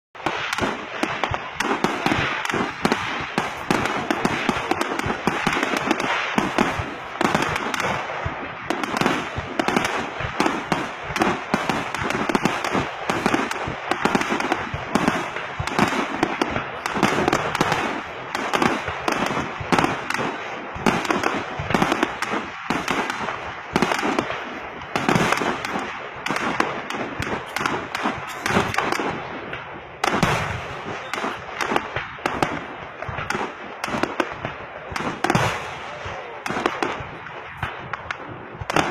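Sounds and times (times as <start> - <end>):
fireworks bangs and crackling: 0.2 - 38.9.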